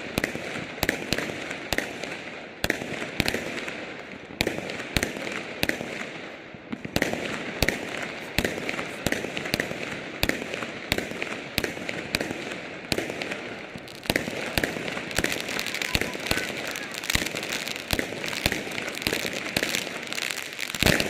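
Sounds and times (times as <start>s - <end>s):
fireworks bangs: 0.0s - 21.0s
fireworks crackling: 0.0s - 21.0s.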